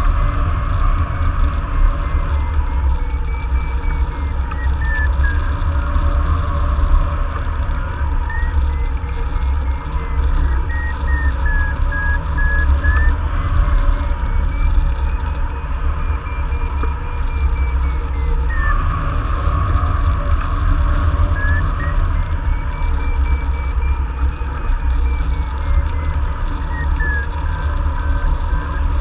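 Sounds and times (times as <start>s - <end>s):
variometer beeping: 2.4s - 29.0s.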